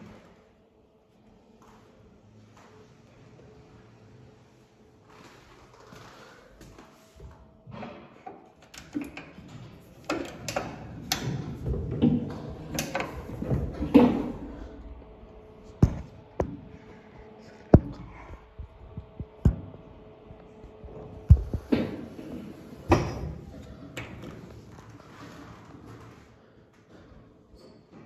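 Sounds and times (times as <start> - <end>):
faint steady hum: 0.0 - 25.2.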